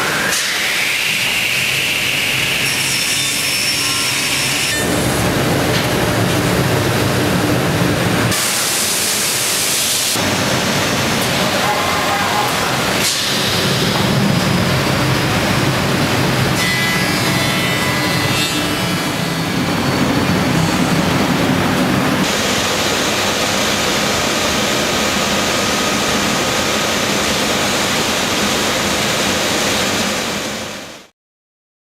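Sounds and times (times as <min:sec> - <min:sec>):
cnc machine spindle and extraction noise: 0:00.0 - 0:31.1.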